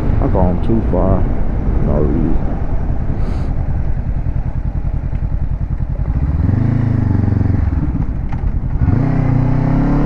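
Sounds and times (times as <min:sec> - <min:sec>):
motorcycle engine revving: 0:01.9 - 0:10.0.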